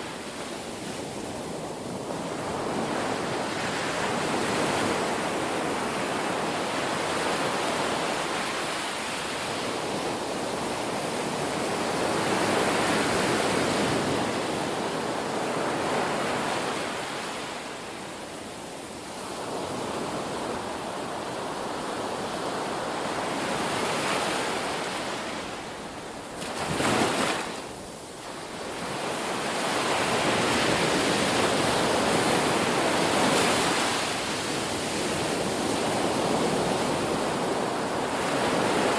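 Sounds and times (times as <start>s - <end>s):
waves washing in: 0.0s - 38.9s.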